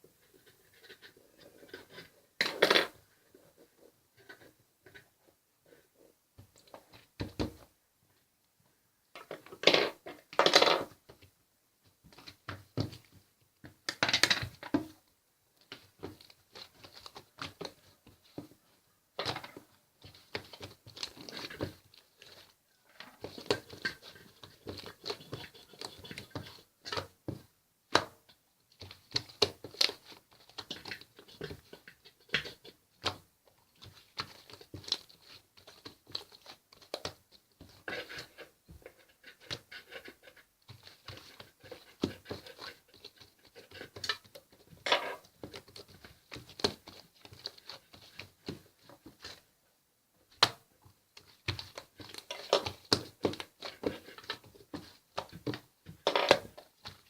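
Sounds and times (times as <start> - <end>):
crinkling and tapping handling noises: 6.3 - 49.6, 50.2 - 57.0.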